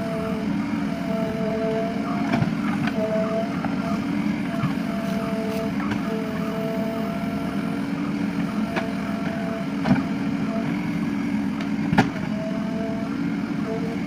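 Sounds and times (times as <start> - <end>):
diesel engine running under load: 0.0 - 14.0
hydraulic whine: 0.0 - 14.0.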